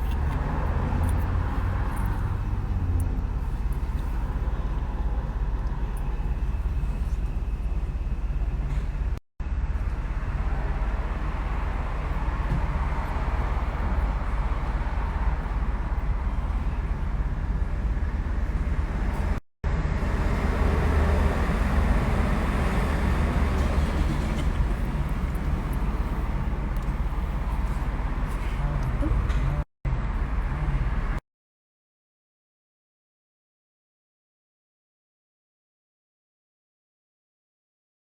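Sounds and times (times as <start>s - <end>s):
road and engine rumble in car: 0.0s - 31.2s.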